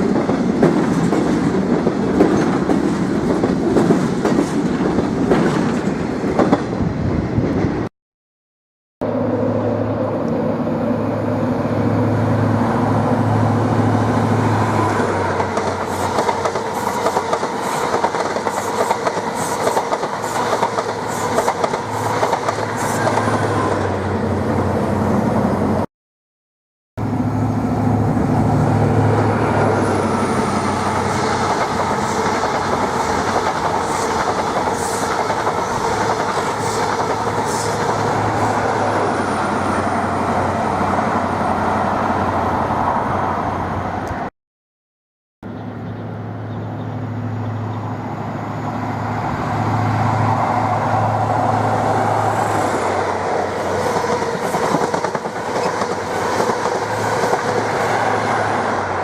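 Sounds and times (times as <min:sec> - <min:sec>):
train traction hum: 0:09.0 - 0:25.8, 0:27.0 - 0:44.3, 0:45.5 - 0:59.0.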